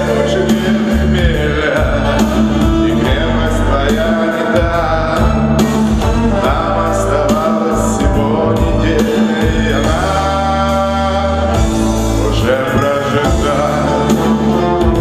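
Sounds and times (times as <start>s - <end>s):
instrumental accompaniment: 0.0s - 15.0s
man singing into microphone: 0.0s - 15.0s.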